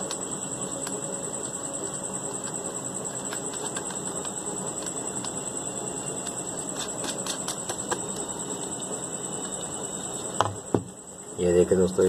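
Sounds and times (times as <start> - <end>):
steady high-pitched whine: 0.0 - 12.0.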